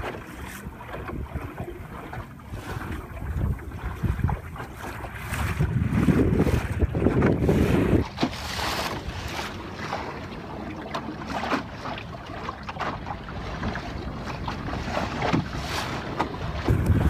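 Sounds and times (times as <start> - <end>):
wind on microphone: 0.0 - 10.2, 13.4 - 17.0
water rushing along wooden hull: 0.0 - 17.0
water slapping hull: 0.0 - 17.0.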